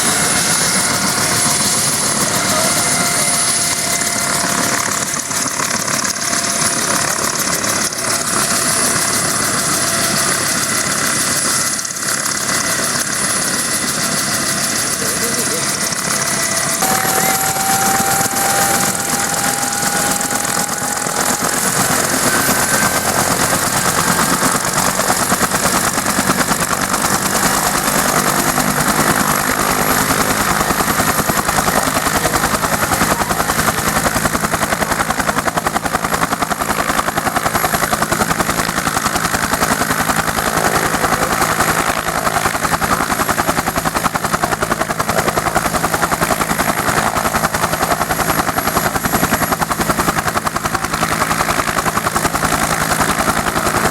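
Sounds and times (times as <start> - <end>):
faint turbine whine: 0.0 - 53.9
helicopter rotor beating: 0.0 - 53.9.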